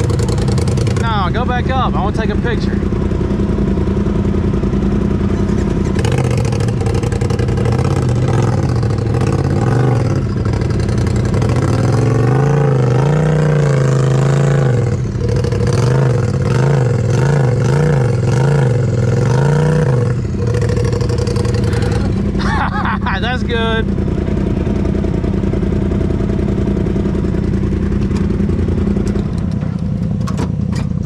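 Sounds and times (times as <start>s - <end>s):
buggy engine revving: 0.0s - 31.0s
engine idling: 0.0s - 31.0s.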